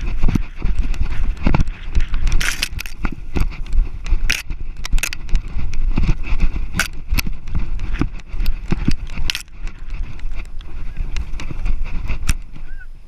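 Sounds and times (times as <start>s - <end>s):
camera and harness rattling: 0.0s - 12.7s
grass brushing: 0.0s - 13.0s
steady low rumble: 0.0s - 13.0s.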